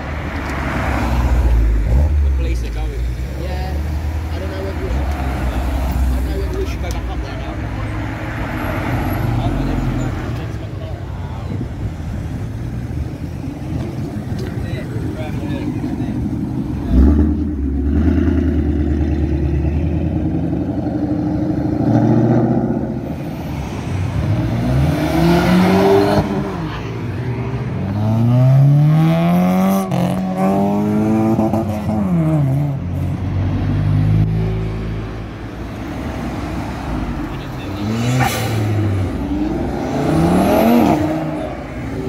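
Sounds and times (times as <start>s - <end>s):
car engines accelerating: 0.0s - 42.0s.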